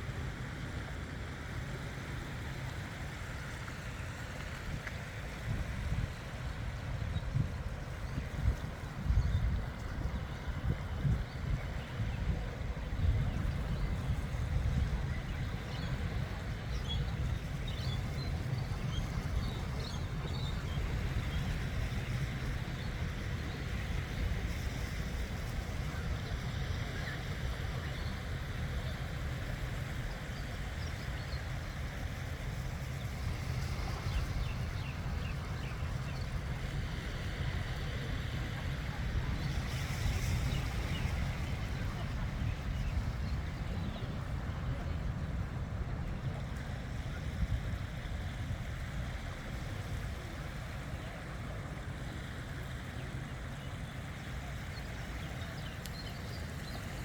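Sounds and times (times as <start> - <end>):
sea washing along shore: 0.0 - 57.0
wind buffeting microphone: 4.0 - 51.8.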